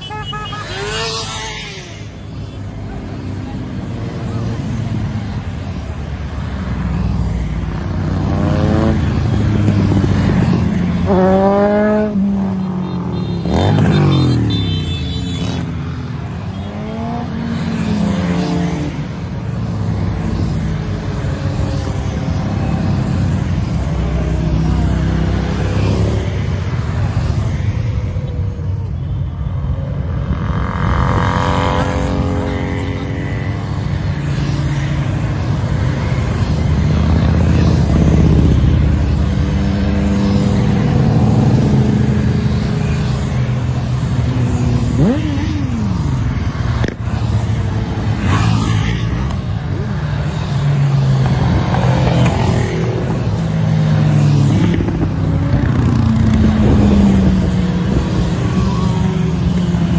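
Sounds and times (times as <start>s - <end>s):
motorcycle engines accelerating: 0.0s - 59.9s
motorcycles riding past: 0.0s - 59.9s.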